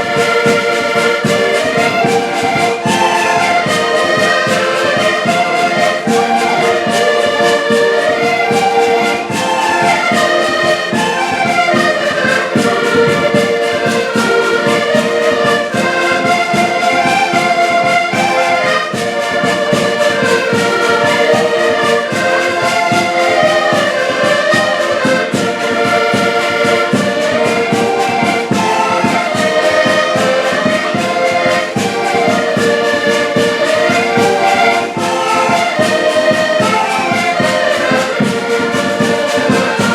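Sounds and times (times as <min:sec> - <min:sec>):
live band playing music: 0:00.0 - 0:39.9.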